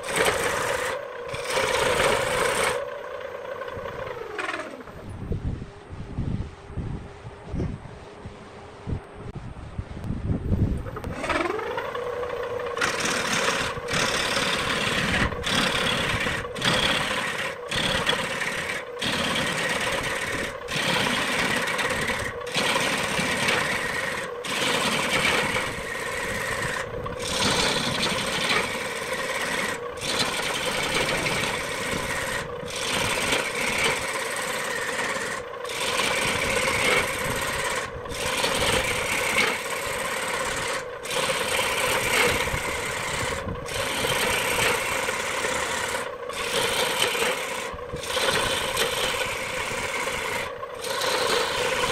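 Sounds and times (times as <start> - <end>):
turning tool scraping wood: 0.0 - 5.1, 10.8 - 51.9
lathe motor hum: 0.0 - 9.4, 10.8 - 51.9.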